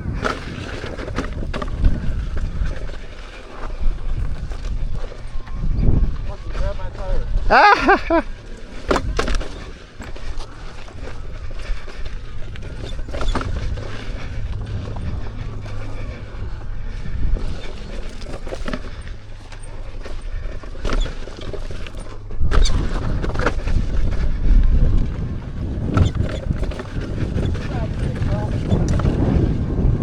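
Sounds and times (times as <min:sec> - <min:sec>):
tyre noise on dirt trail: 0:00.0 - 0:30.0
wind rumble on microphone: 0:00.0 - 0:30.0.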